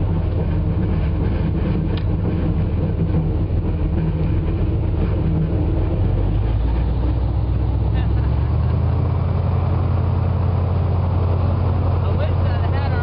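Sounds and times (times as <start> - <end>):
airboat engine droning: 0.0 - 13.0.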